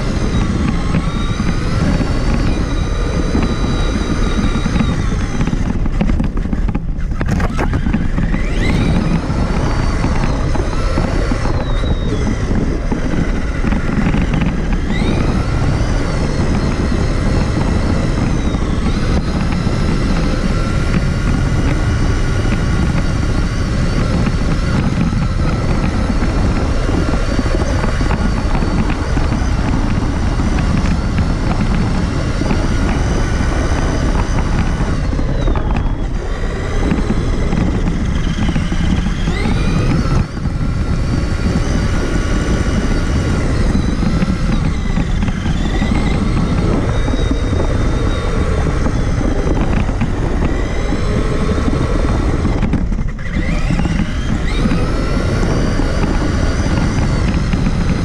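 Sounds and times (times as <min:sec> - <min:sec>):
drivetrain and tyres rumbling: 0:00.0 - 0:58.0
rc truck motor whining: 0:00.0 - 0:58.0.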